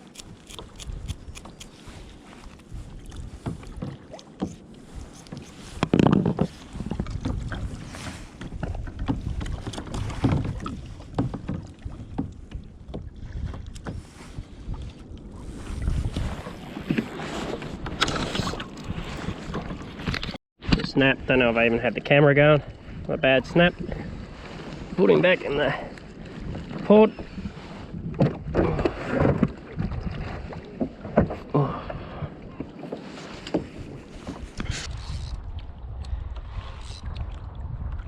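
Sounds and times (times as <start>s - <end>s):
water sloshing and splashing: 0.0s - 21.1s, 22.1s - 38.0s
wind on microphone: 0.0s - 21.4s, 22.6s - 38.0s.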